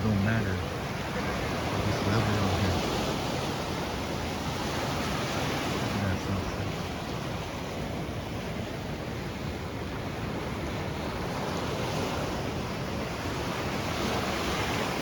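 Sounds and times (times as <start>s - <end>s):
surf on rocky shore: 0.0s - 15.0s.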